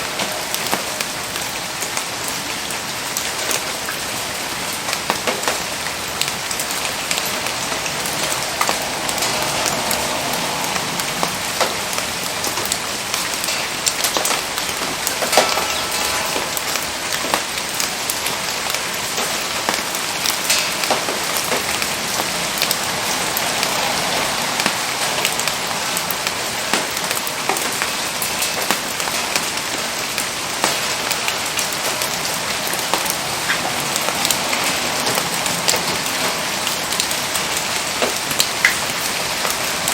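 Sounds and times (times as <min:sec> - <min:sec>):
campfire popping and crackling: 0:00.0 - 0:39.9
steady rain: 0:00.0 - 0:39.9.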